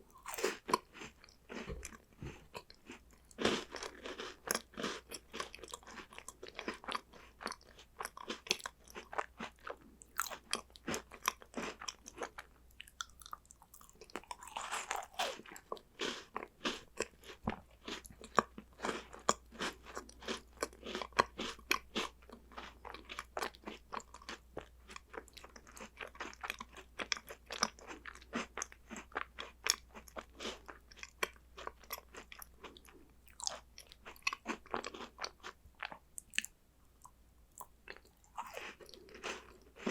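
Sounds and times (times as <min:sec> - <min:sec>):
crunching and chewing snacks: 0:00.0 - 0:39.9.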